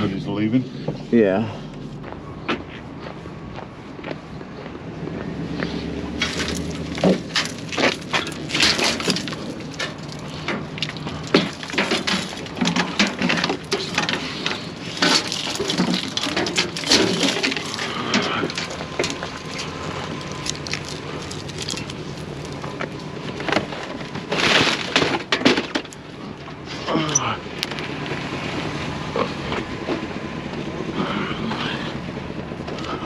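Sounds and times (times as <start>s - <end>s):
low hum: 0.0s - 33.0s
junk crunching and clattering: 4.1s - 33.0s.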